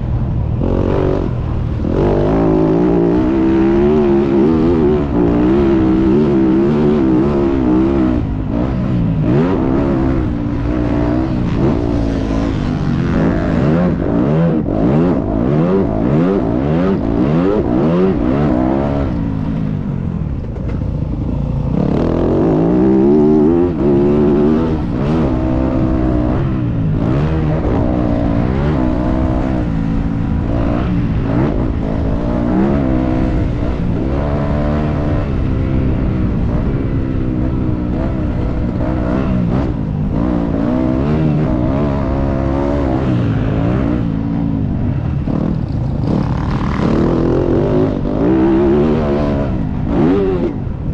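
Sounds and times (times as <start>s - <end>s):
dirt bike engine revving: 0.6s - 19.6s, 21.2s - 50.9s.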